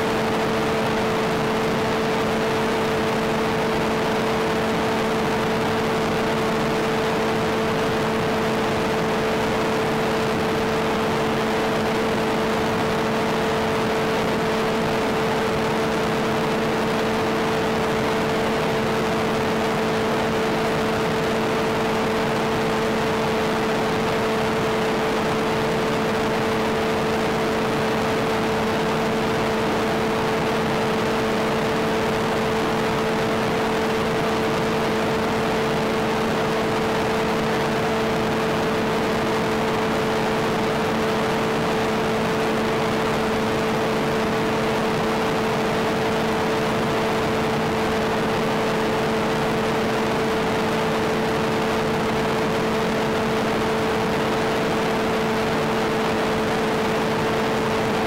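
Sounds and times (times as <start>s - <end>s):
radio-link noise: 0.0s - 58.0s.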